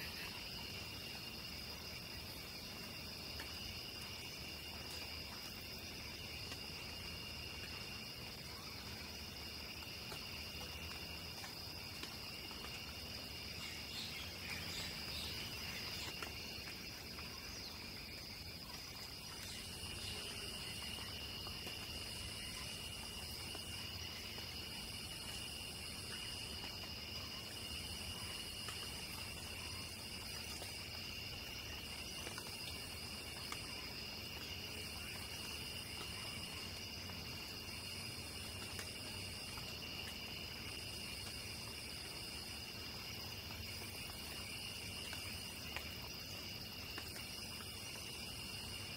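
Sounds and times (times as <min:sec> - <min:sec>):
crickets trilling: 0:00.0 - 0:48.9.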